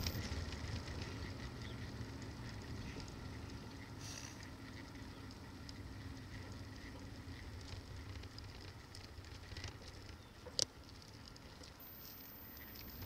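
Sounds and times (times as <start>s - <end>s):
bicycle rattles and ticks: 0.0s - 13.0s
bicycle rolling over rough pavement: 0.0s - 13.0s.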